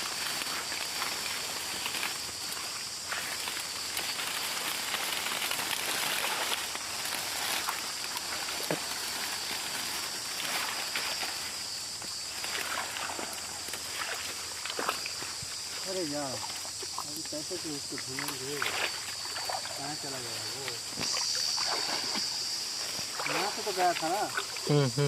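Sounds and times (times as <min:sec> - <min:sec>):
footsteps through undergrowth: 0:00.0 - 0:24.6
high-pitched hiss: 0:00.0 - 0:25.0.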